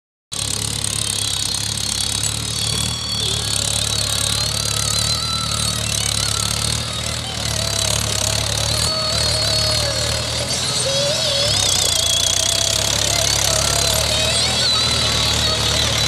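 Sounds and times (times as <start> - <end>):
diesel tractor engine running: 0.3 - 16.0.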